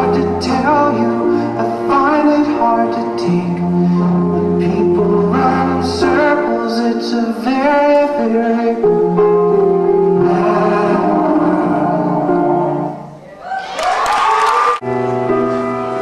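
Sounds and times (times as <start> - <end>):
song with sung melody: 0.0 - 13.2.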